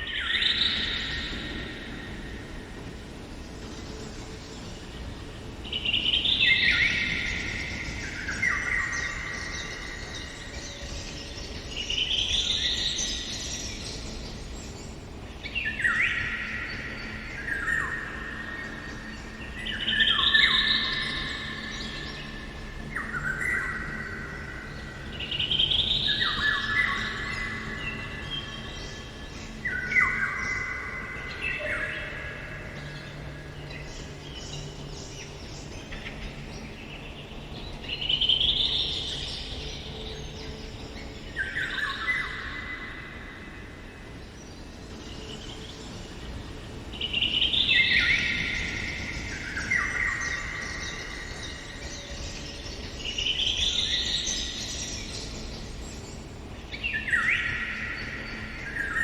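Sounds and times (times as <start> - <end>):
faint forest background noise: 0.0 - 59.0.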